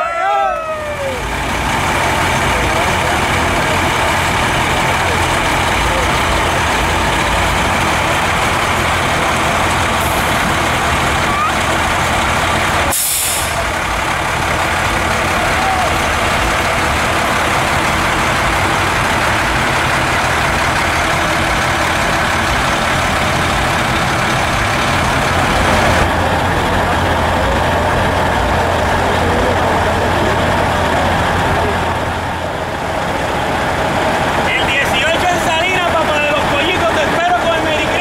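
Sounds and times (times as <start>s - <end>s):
diesel engines idling: 0.0s - 38.0s
faint voices: 0.0s - 38.0s.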